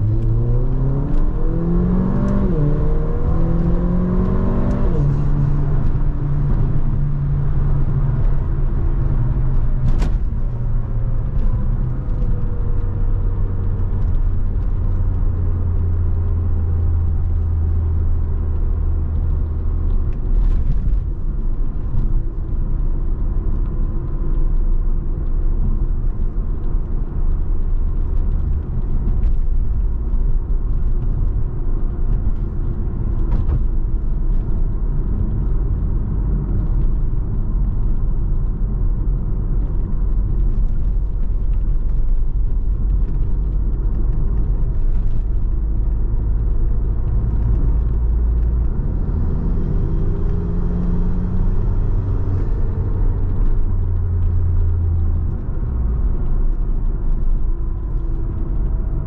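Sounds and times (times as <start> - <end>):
car engine while driving: 0.0 - 59.0
road rumble: 0.0 - 59.0.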